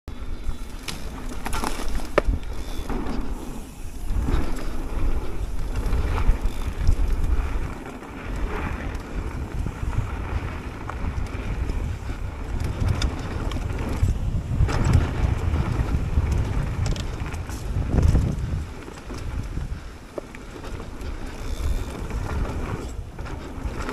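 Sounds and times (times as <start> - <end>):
bike clicks and rattles: 0.1 - 23.9
tyres rolling over dirt and leaves: 0.1 - 23.9
wind buffeting microphone: 0.1 - 23.9.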